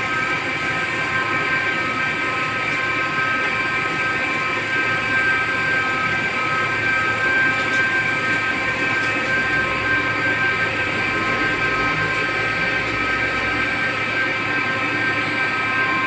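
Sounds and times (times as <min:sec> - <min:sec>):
lathe cutting metal whine: 0:00.0 - 0:16.0.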